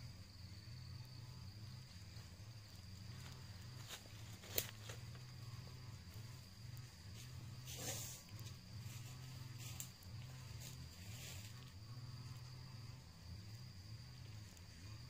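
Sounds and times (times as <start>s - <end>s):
high-pitched insect drone: 0.0s - 15.0s
low wavering hum: 0.0s - 15.0s.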